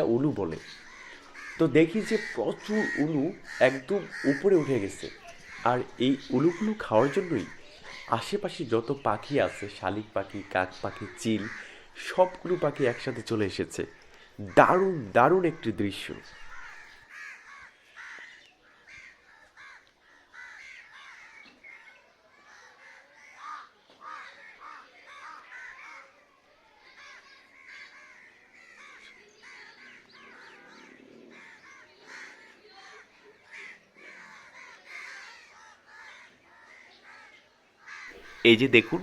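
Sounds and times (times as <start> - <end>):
crows cawing: 0.0 - 39.0.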